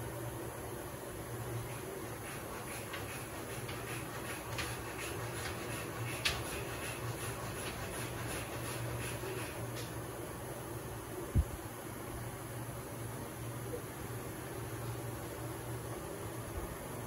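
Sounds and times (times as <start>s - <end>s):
electric fan hissing and humming: 0.0s - 17.0s.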